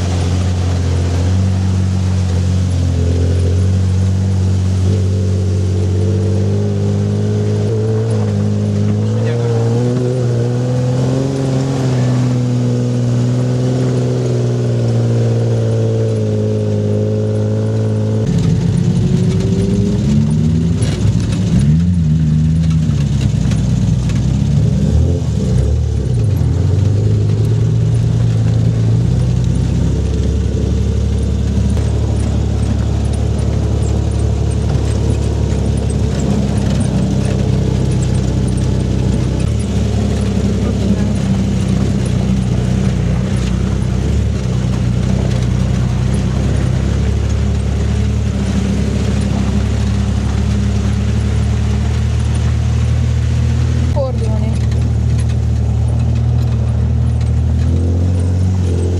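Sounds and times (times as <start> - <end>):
vehicle engine revving: 0.0 - 58.9.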